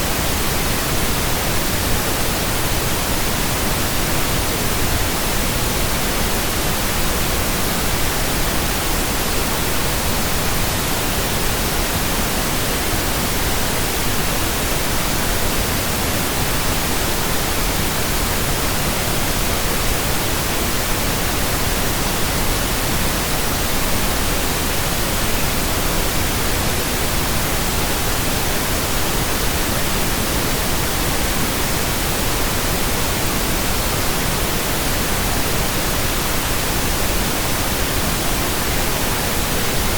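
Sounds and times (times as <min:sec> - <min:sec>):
steady pink noise static: 0:00.0 - 0:39.9.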